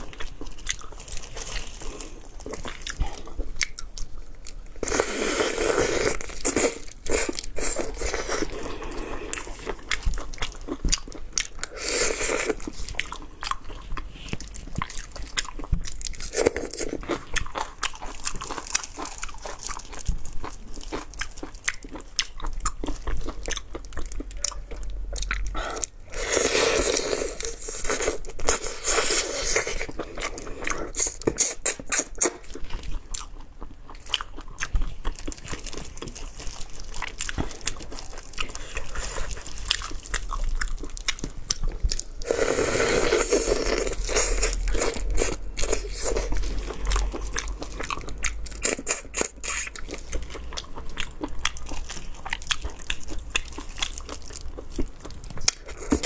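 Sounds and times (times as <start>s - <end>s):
crunching shrimp shells: 0.0s - 56.0s
wet chewing: 0.0s - 56.0s.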